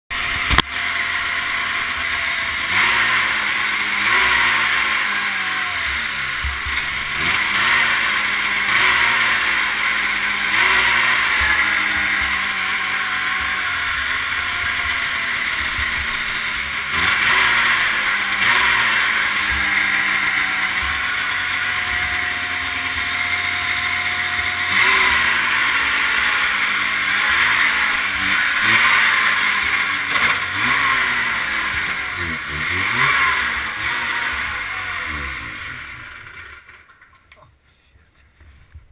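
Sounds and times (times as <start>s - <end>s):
two-stroke engine revving: 0.1s - 37.2s.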